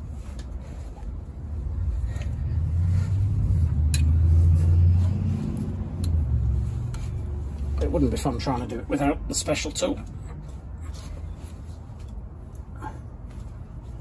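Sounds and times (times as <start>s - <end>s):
low engine-like rumble: 0.0s - 14.0s.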